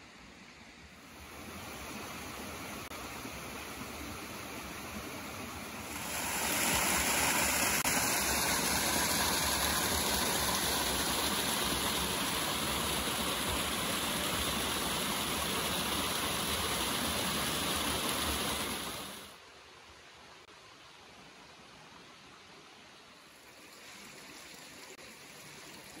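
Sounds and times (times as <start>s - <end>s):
stream water rushing: 0.1s - 26.0s.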